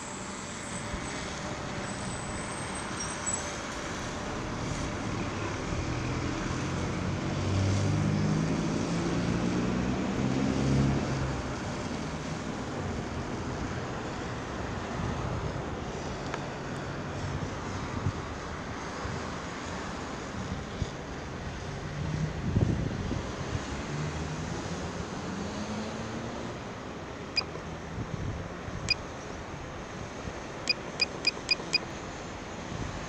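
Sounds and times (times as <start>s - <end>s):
road traffic noise: 0.0s - 33.0s.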